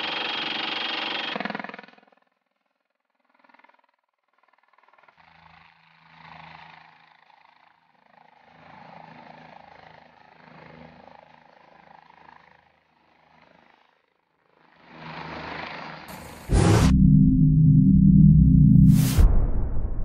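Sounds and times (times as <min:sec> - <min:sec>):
helicopter rotor and turbine: 0:00.0 - 0:20.0.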